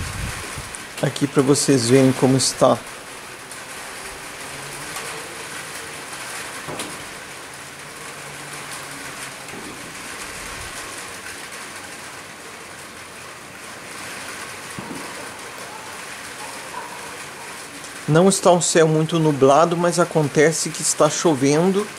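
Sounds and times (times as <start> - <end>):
rain pattering on rooftops: 0.0 - 21.9.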